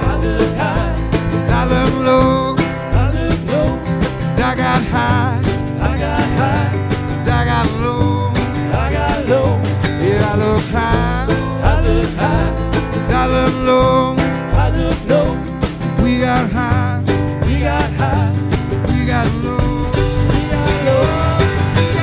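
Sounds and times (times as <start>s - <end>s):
live country-rock band: 0.0s - 22.0s.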